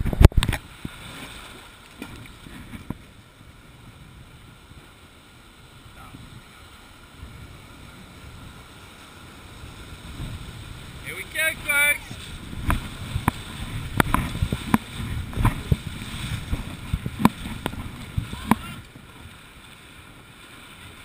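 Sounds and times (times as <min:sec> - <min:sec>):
wind buffeting microphone: 0:00.0 - 0:01.2, 0:02.0 - 0:21.0
river water rushing: 0:00.0 - 0:21.0.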